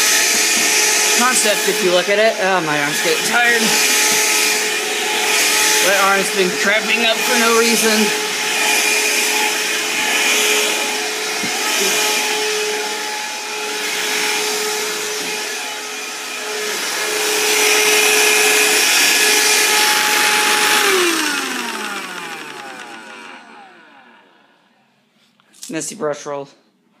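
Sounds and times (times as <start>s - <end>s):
handheld vacuum running: 0.0s - 24.9s.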